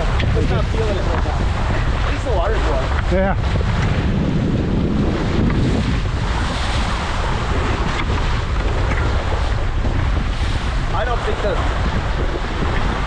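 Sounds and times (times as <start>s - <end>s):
choppy water splashing against hulls: 0.0s - 13.0s
wind buffeting microphone: 0.0s - 13.0s.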